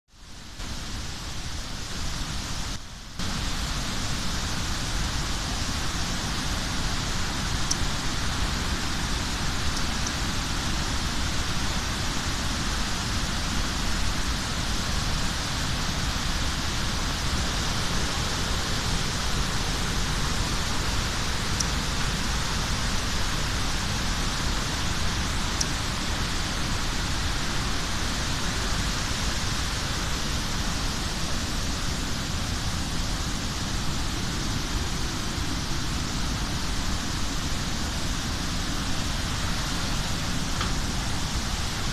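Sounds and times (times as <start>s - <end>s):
waterfall rushing: 0.2s - 41.9s.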